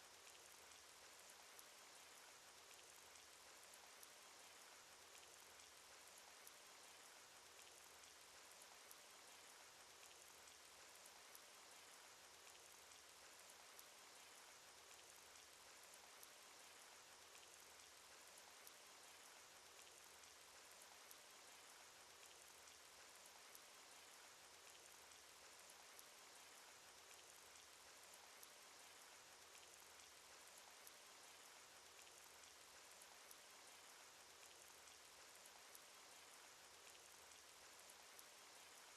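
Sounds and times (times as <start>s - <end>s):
raindrop ticks: 0.0s - 38.9s
rainfall hiss: 0.0s - 38.9s.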